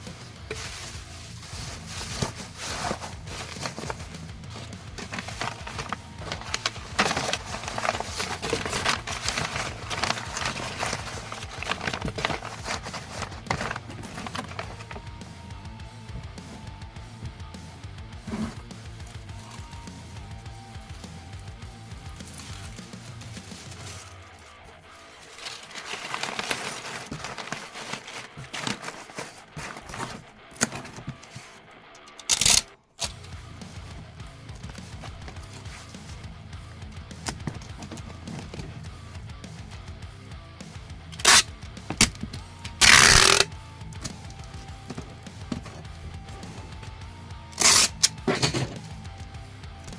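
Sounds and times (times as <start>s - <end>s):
packaging rustling and crinkling: 0.0s - 15.6s, 16.2s - 16.8s, 22.0s - 36.3s, 37.2s - 38.9s, 41.2s - 49.0s.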